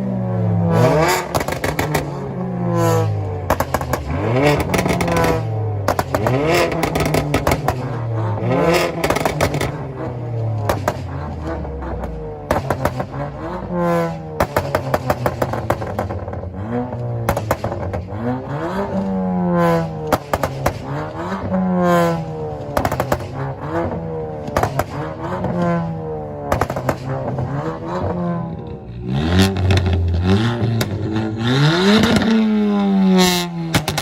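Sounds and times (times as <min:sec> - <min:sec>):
car engines revving hard: 0:00.0 - 0:34.0
sharp exhaust pops and bangs: 0:01.1 - 0:02.2, 0:03.4 - 0:08.0, 0:08.7 - 0:28.7, 0:29.4 - 0:34.0.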